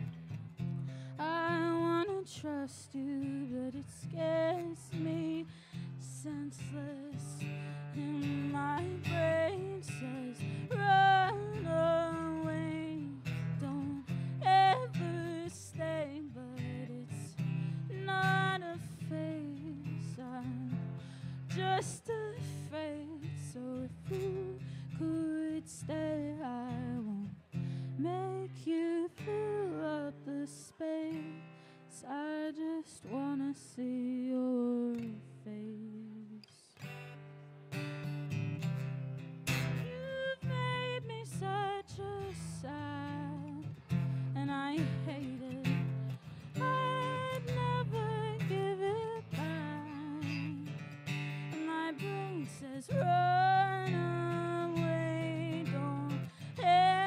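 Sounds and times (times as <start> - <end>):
woman singing slow melody: 0.0 - 37.1, 39.7 - 57.0
acoustic guitar: 0.0 - 57.0.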